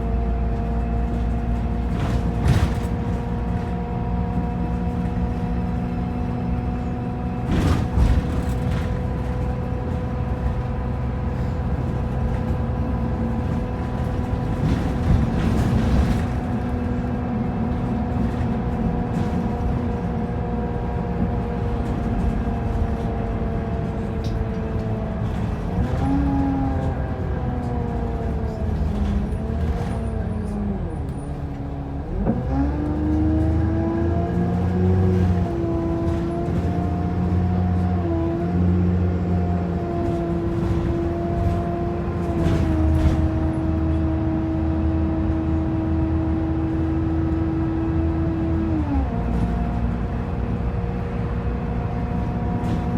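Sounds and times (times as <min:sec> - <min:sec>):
bus engine drone: 0:00.0 - 0:52.9
bus whine: 0:00.0 - 0:52.9.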